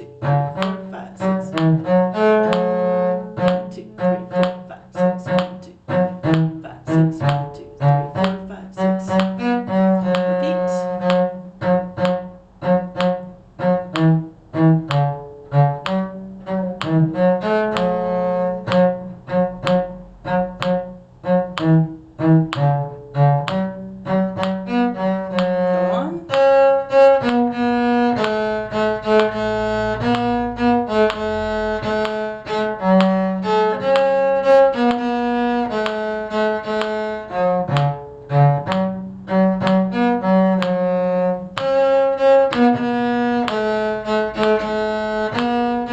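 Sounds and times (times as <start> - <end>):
cello and bowed strings: 0.0 - 45.9.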